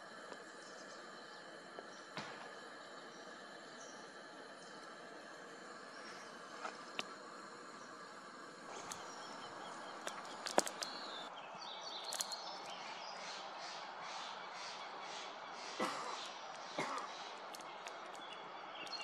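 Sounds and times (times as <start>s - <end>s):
gas stove burners hissing: 0.0s - 11.3s, 12.1s - 19.0s.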